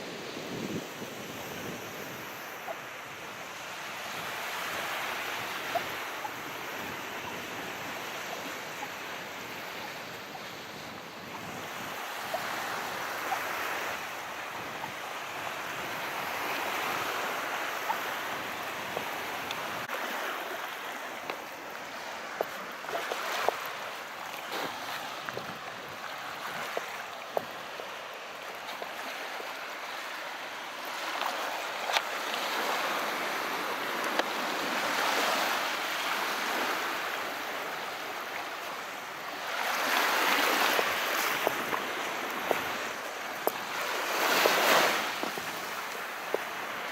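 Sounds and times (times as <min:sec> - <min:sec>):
sea waves washing in: 0:00.0 - 0:46.9.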